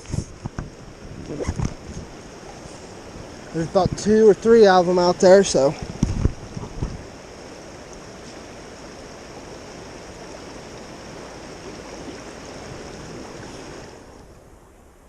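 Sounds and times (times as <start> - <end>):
creek water rushing over rocks: 0.0 - 14.7.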